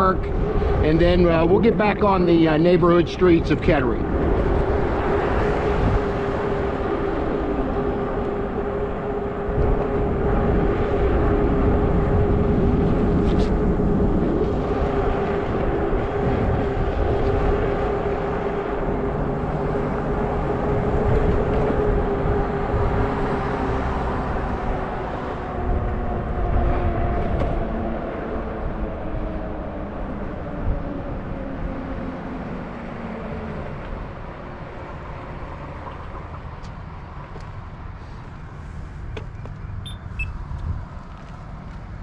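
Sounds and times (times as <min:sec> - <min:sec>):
e-bike drive and tyre hum: 0:00.0 - 0:42.0
wind rumbling on microphone: 0:00.0 - 0:42.0.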